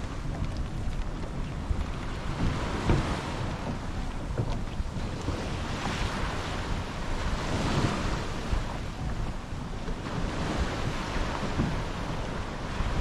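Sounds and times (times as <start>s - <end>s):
rushing sea water and waves: 0.0s - 13.0s
wind buffeting microphone: 0.0s - 13.0s.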